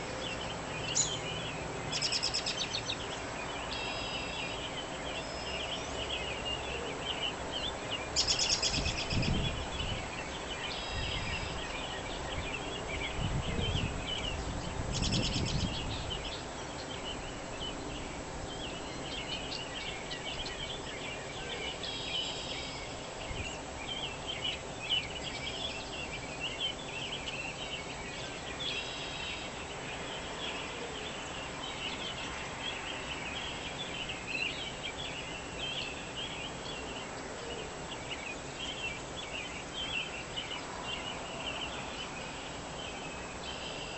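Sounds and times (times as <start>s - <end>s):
songbirds chirping and singing: 0.0s - 43.9s.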